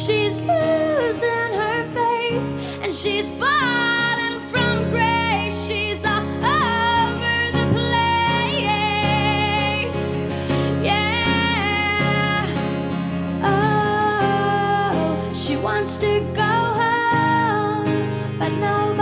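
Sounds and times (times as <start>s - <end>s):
acoustic guitar chords: 0.0s - 19.0s
woman singing: 0.0s - 19.0s.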